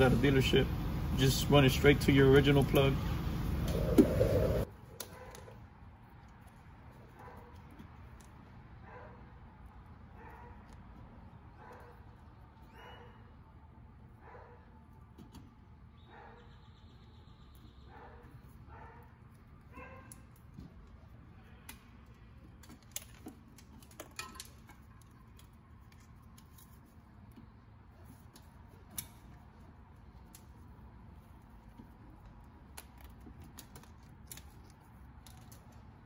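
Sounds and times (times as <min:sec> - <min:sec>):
low steady background hum: 0:00.0 - 0:36.0.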